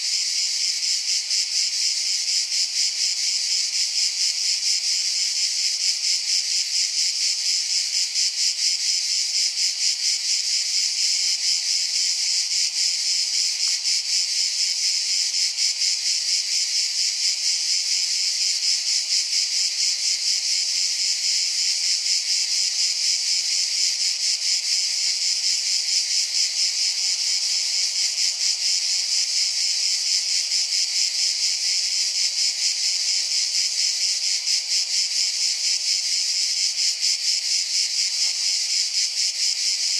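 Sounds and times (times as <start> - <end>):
insect chirring: 0.0 - 39.9.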